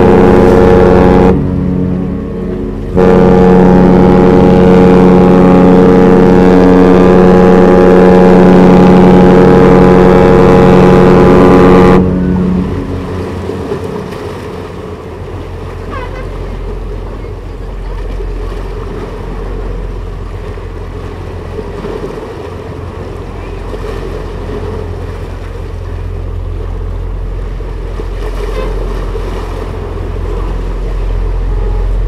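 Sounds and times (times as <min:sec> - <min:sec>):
deep ship's horn blast: 0:00.0 - 0:32.0
low background rumble: 0:00.0 - 0:32.0.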